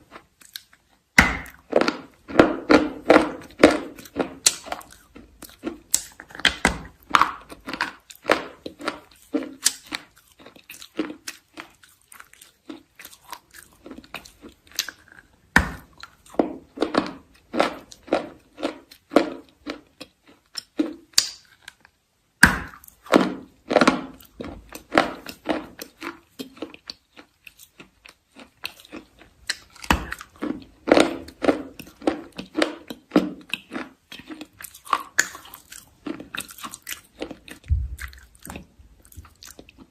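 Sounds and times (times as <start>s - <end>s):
crunchy chewing: 0.0s - 22.0s, 22.6s - 39.9s.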